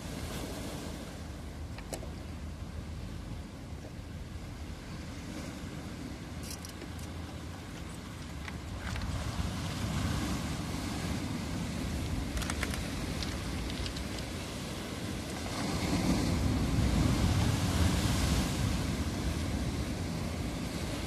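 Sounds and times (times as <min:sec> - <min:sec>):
sea waves breaking on rocks: 0:00.0 - 0:21.0
wind rumbling on microphone: 0:00.0 - 0:21.0.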